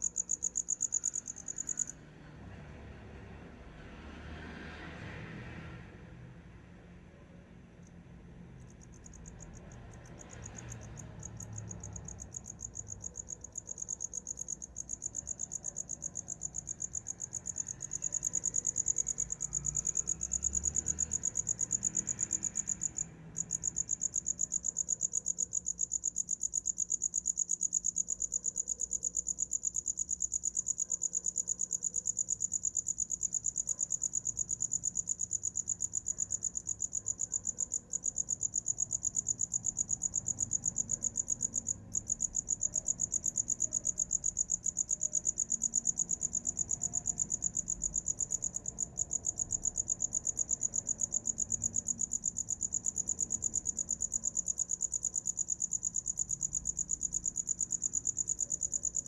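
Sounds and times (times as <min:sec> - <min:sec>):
cricket chirping: 0:00.0 - 0:02.8, 0:07.8 - 0:59.0.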